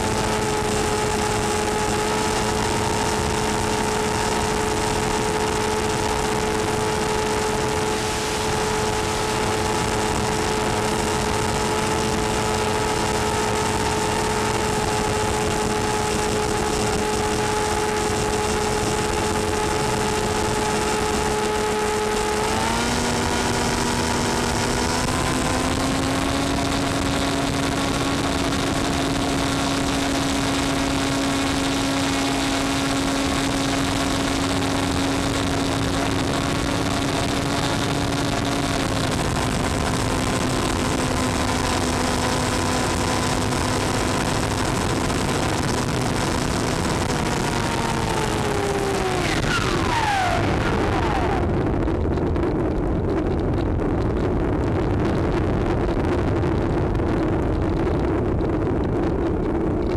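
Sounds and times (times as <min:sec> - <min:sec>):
electric motor and propeller drone: 0:00.0 - 0:59.9
rushing wind: 0:00.0 - 0:59.9.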